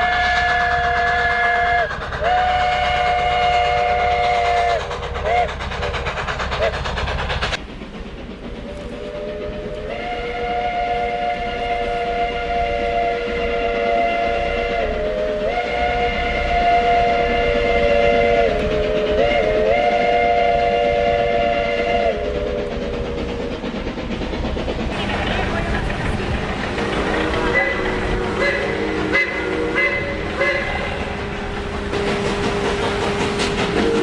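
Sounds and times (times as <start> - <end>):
steam locomotive whistle: 0.0 - 5.6, 8.6 - 23.5, 26.8 - 34.0
train running noise: 0.0 - 34.0.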